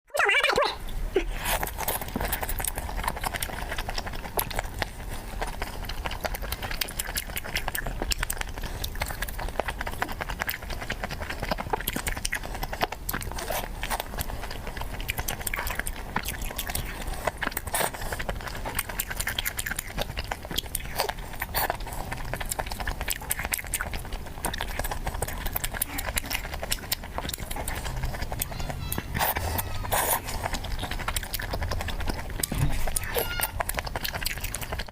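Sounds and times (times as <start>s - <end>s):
wet chewing and mouth clicks: 0.2s - 34.9s.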